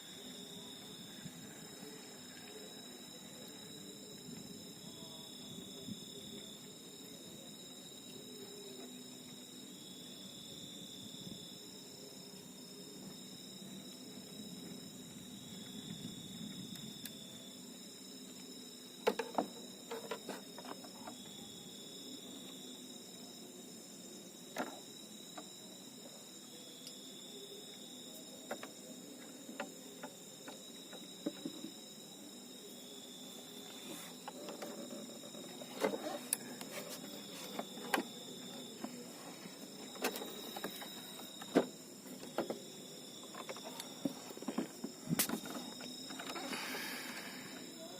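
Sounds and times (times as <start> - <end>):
crickets trilling: 0.0 - 47.9
insects calling: 0.0 - 47.9.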